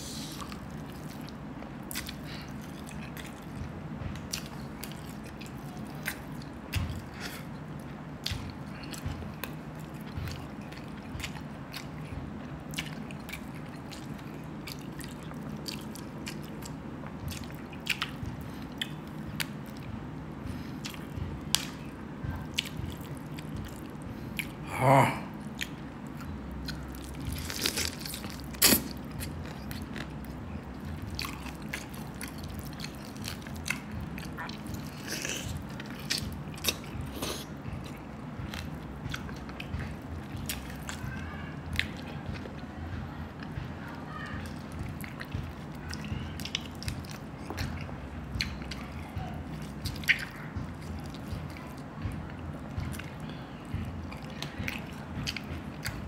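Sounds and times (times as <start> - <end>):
wet chewing and lip-smacking: 0.2 - 24.6, 25.3 - 42.6, 44.2 - 56.0.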